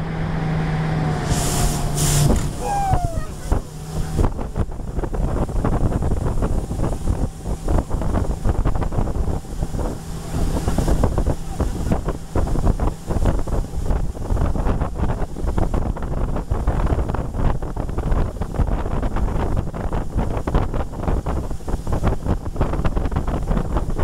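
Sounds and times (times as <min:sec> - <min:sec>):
boat motor drone: 0:00.0 - 0:24.0
water rushing along hull: 0:00.0 - 0:24.0
wind buffeting microphone: 0:00.0 - 0:24.0.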